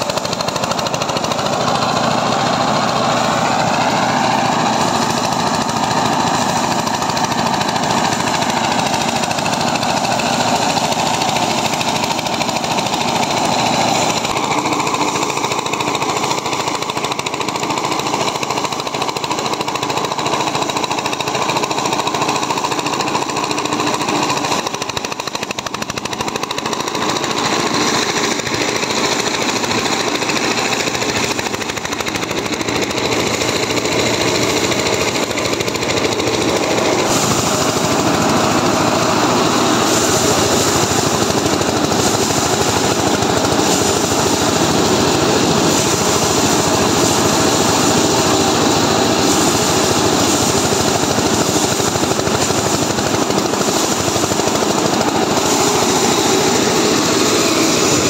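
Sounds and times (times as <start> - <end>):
thresher engine clattering: 0.0 - 58.0.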